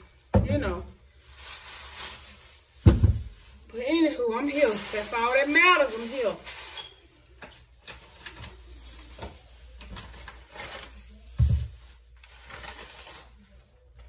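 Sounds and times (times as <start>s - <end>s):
plastic bags rustling and crinkling: 0.0s - 14.0s.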